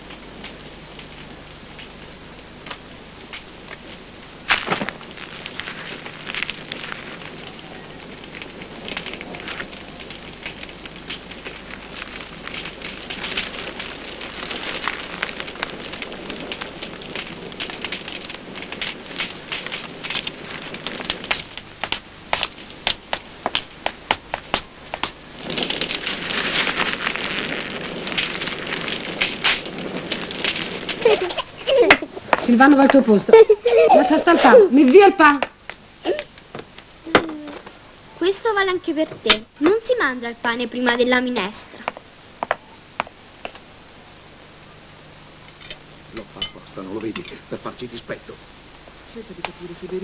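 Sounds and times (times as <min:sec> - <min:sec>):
hissing rush of flame: 0:00.0 - 0:50.0
wood fire crackling and popping: 0:00.0 - 0:50.0.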